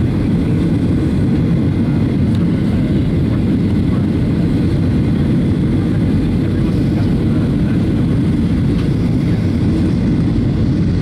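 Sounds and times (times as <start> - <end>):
jet engine and airflow rumble: 0.0 - 11.0.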